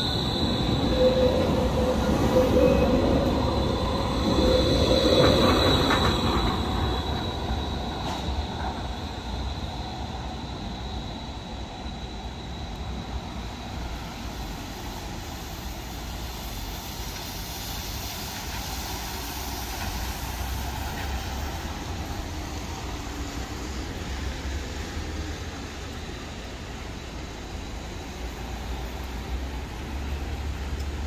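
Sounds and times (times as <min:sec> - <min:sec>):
street traffic: 0:00.0 - 0:31.0
tram rolling rumble: 0:00.0 - 0:31.0.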